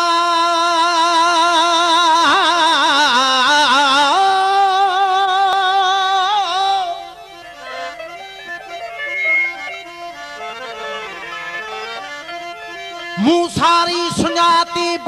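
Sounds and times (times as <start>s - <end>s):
man singing with vibrato: 0.0s - 10.4s, 12.1s - 15.0s.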